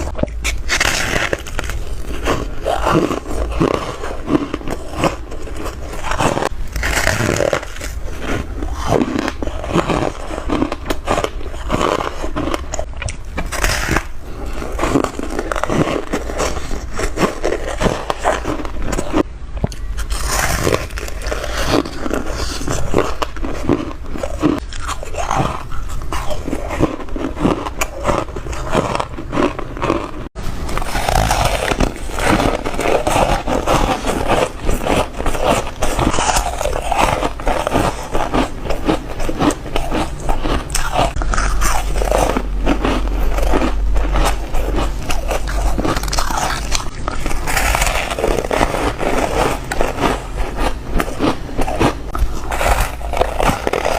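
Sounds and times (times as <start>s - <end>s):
ice being chewed with crunches: 0.0s - 53.9s.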